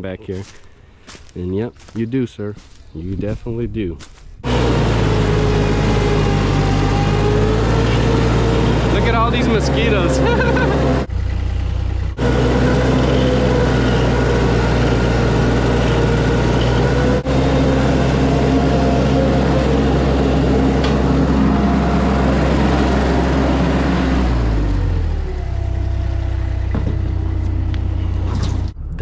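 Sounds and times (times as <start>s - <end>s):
engine running: 4.4s - 29.0s.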